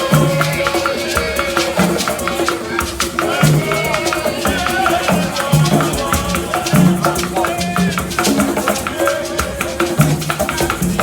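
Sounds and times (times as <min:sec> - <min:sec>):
upbeat music with drums: 0:00.0 - 0:11.0.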